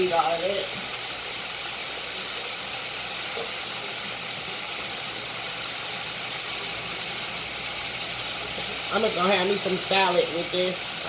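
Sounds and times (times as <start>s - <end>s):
chicken wings sizzling in oil: 0.0s - 11.0s.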